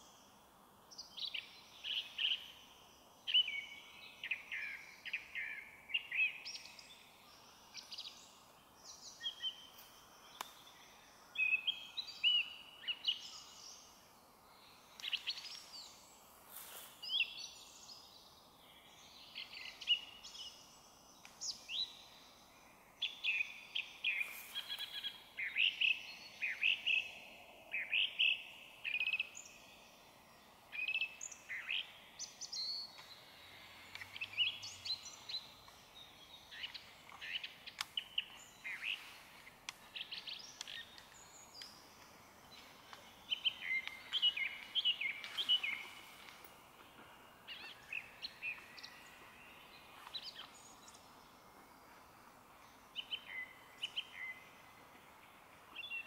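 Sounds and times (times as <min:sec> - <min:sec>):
small birds singing: 0:00.0 - 0:56.0
song thrush singing: 0:00.0 - 0:56.0.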